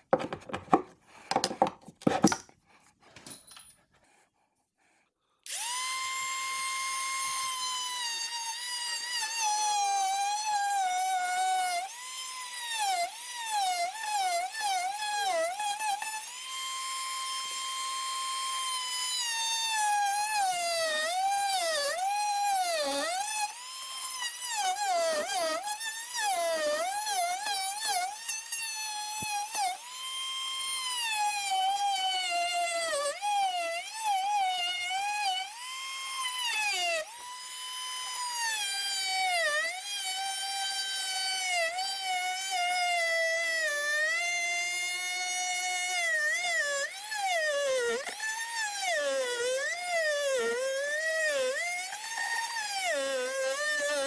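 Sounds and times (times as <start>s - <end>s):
power drill motor whining: 5.5s - 14.2s, 15.7s - 54.0s.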